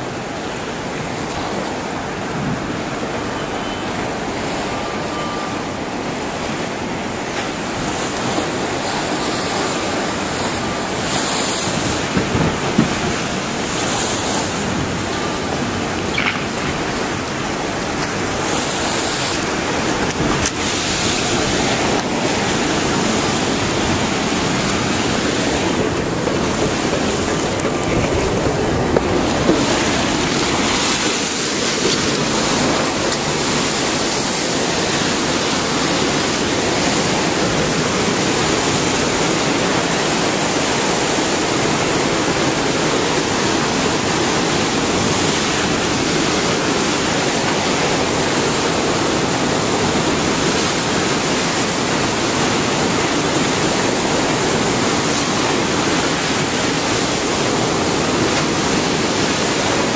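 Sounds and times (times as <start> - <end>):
water surging and churning: 0.0 - 59.9.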